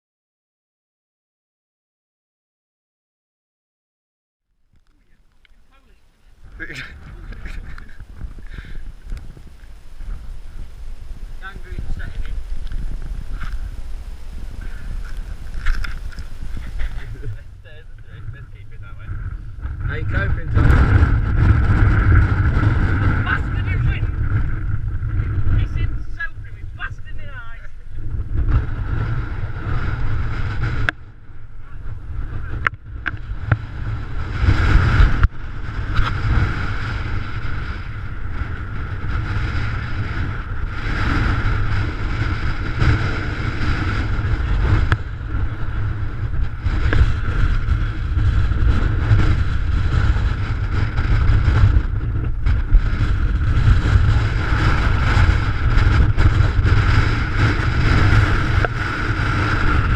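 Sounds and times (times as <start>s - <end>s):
wind buffeting microphone: 4.7s - 59.9s.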